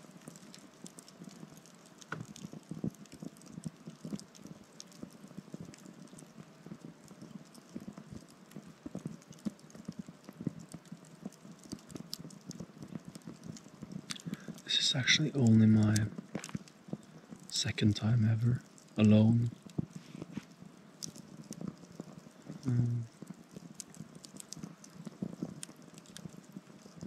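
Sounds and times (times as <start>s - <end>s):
campfire crackling and popping: 0.0s - 27.0s
fire burning hiss: 0.0s - 27.0s.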